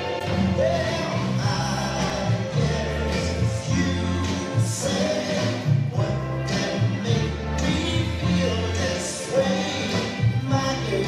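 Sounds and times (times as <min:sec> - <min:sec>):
music with bass and singing: 0:00.0 - 0:11.0.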